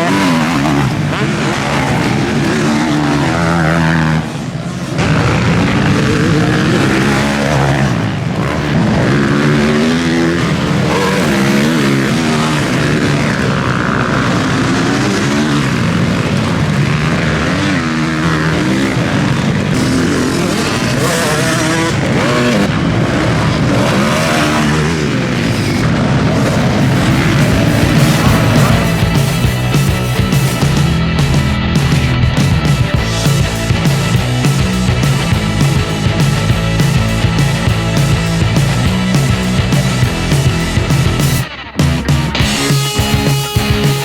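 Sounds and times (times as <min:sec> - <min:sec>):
motocross bike engines revving: 0:00.0 - 0:44.0.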